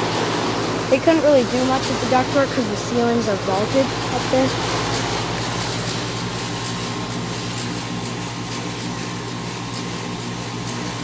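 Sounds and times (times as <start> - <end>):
compressor humming: 0.0 - 11.0
fan air rushing: 0.0 - 11.0.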